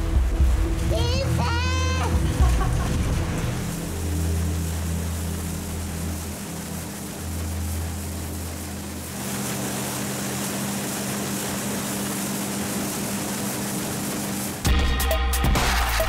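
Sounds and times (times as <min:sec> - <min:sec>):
water rushing: 0:00.0 - 0:14.6
motorboat engine humming: 0:00.0 - 0:15.4.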